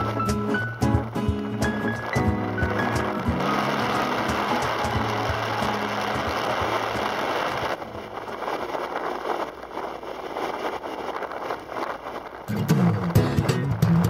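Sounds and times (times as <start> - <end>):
motorcycle engine and tyre noise: 0.0 - 14.0
wind on microphone: 0.0 - 14.0.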